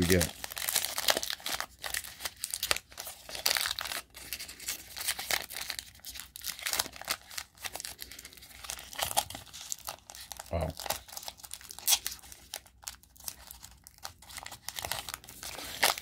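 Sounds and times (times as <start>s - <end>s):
foil wrapper tearing and crinkling: 0.0s - 16.0s.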